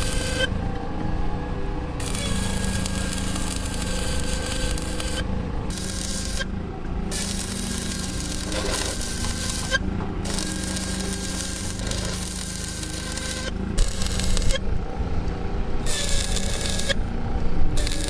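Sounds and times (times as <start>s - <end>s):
welding arc crackling: 0.0s - 0.5s, 2.0s - 14.6s, 15.8s - 17.1s, 17.7s - 18.0s
steady low hum: 0.0s - 18.0s.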